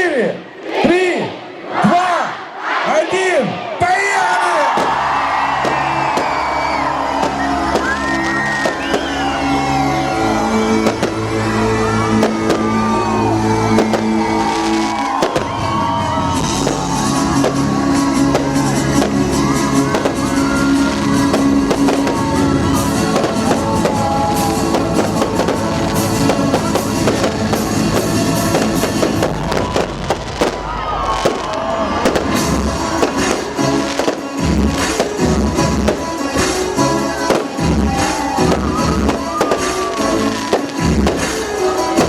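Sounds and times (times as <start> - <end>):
festive music over loudspeakers: 3.9 - 42.0
fireworks bangs and crackles: 4.7 - 42.0.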